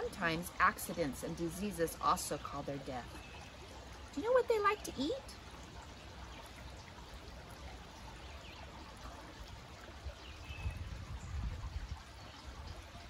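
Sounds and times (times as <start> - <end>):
creek trickling over rocks: 0.0 - 13.0.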